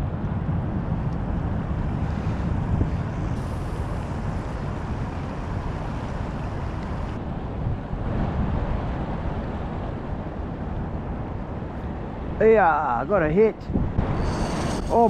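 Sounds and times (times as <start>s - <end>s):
wind buffeting microphone: 0.0s - 12.4s, 13.5s - 15.0s.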